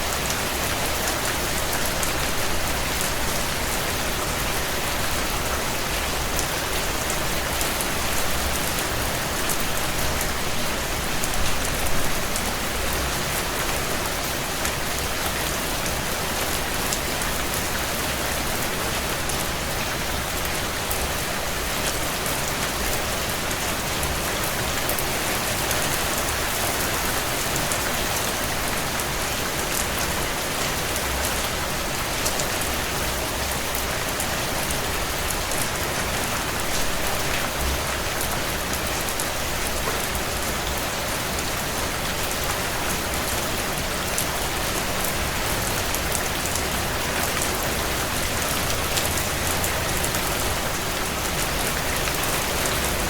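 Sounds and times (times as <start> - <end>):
heavy rain on window panes: 0.0 - 53.0.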